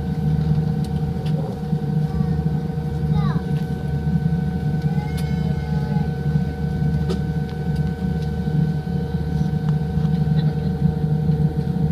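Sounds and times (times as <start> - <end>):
airplane cabin rumble: 0.0 - 11.9
steady whining tones: 0.0 - 11.9.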